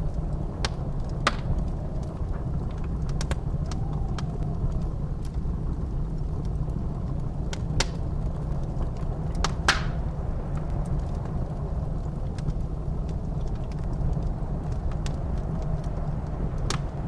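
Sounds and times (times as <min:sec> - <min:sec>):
blizzard wind rumbling: 0:00.0 - 0:17.0
wood fire crackling: 0:00.0 - 0:17.0.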